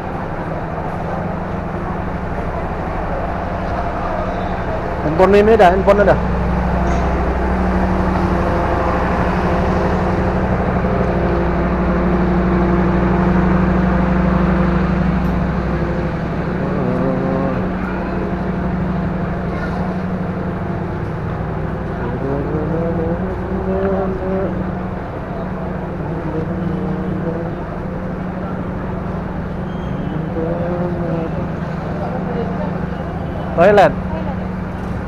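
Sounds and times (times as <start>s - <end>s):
diesel train engine humming: 0.0s - 35.0s.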